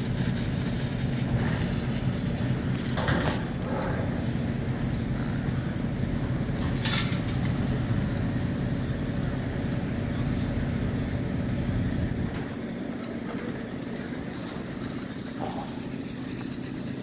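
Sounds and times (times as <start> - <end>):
heavy engines rumbling: 0.0 - 17.0.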